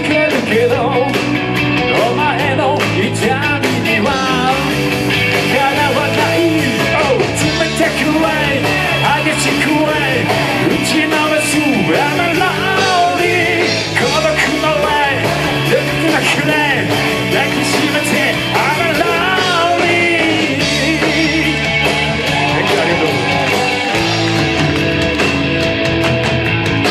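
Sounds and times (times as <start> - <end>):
rock band playing live: 0.0 - 26.9.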